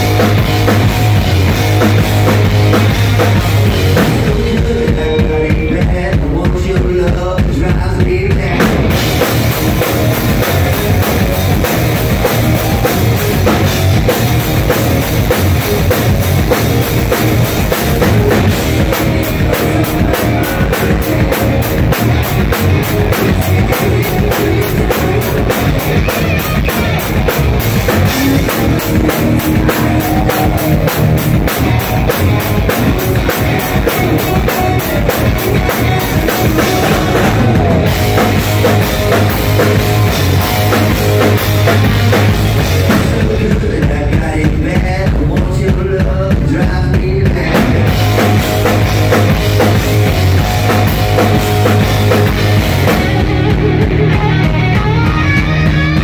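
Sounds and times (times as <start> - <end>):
electric guitars: 0.0 - 45.2, 46.4 - 56.0
drum kit fast beat: 0.0 - 56.0.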